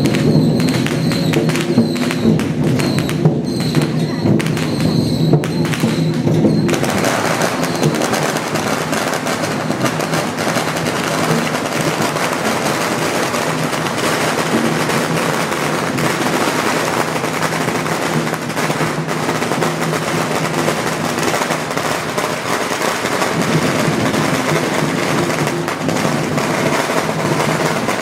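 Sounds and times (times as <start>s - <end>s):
firecrackers crackling: 0.0s - 28.0s.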